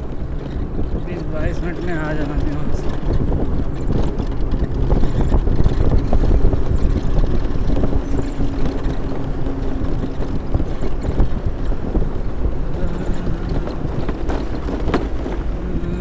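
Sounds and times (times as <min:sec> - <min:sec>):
continuous low rumble: 0:00.0 - 0:16.0
wind buffeting microphone: 0:00.0 - 0:16.0.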